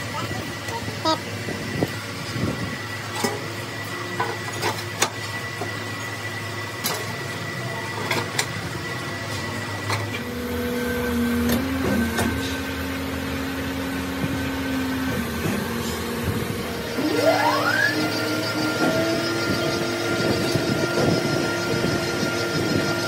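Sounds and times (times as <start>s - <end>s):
grinding machine motor hum: 0.0s - 23.0s.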